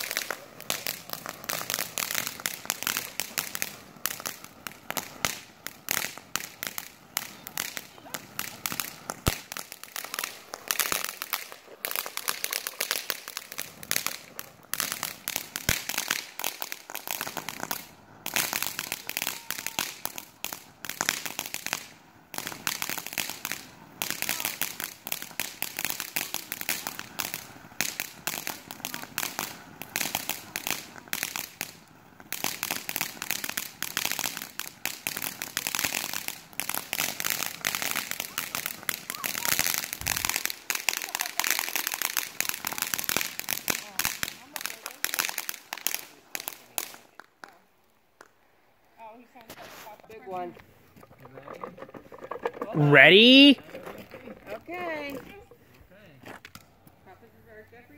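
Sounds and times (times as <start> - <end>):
firework fountain crackling: 0.0 - 57.9.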